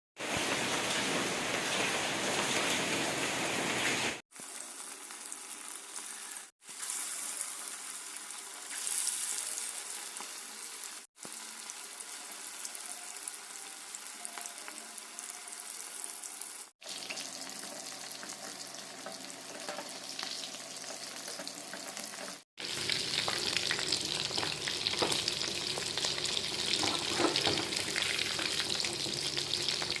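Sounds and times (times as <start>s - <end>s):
food sizzling in hot oil: 0.2s - 30.0s.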